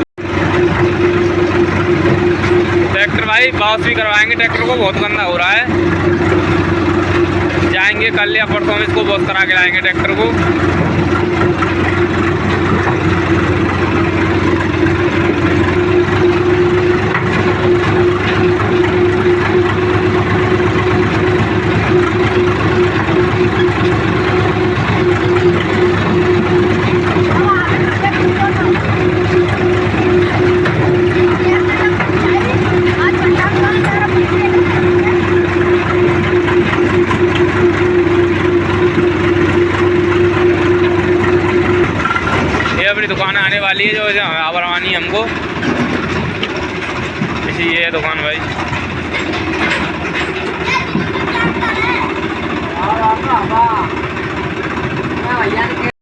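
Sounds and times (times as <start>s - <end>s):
diesel tractor engine running: 0.0s - 56.0s
steady hum: 0.2s - 55.9s.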